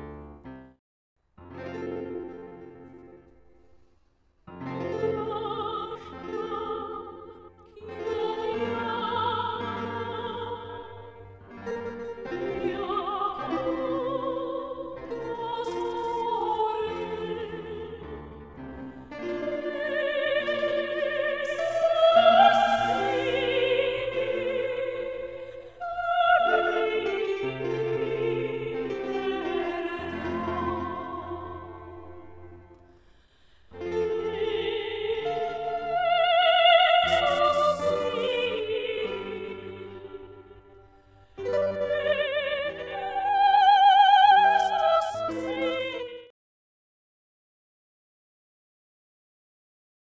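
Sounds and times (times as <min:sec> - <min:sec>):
operatic singing with vibrato: 0:04.8 - 0:32.7, 0:33.7 - 0:46.3.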